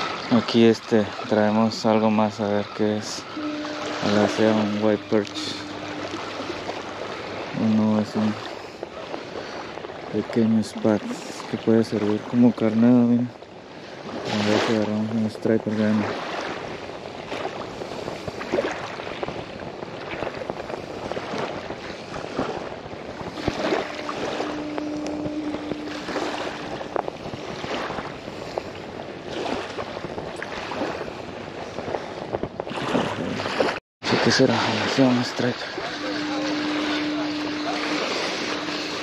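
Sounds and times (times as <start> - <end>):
waves: 0.0 - 39.0
wind: 0.0 - 39.0.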